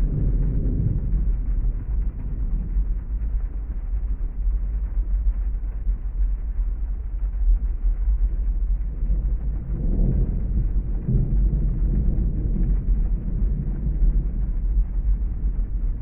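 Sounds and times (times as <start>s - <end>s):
distant thunder: 0.0s - 5.9s, 7.6s - 16.0s
rain: 0.0s - 16.0s.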